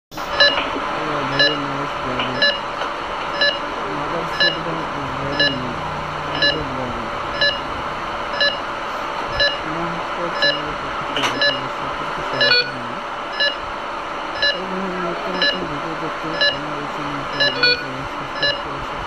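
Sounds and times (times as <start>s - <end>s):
patient monitor beeping: 0.1s - 13.7s, 14.4s - 18.8s.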